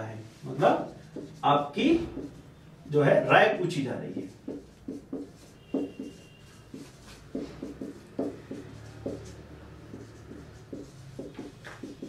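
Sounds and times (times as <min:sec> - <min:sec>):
marker squeaking on whiteboard: 0:00.5 - 0:12.0.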